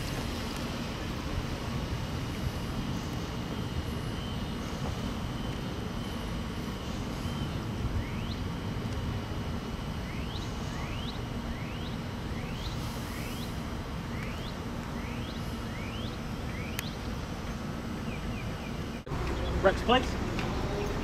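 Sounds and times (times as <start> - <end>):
distant traffic: 0.0 - 21.0
wind rumble: 0.0 - 21.0.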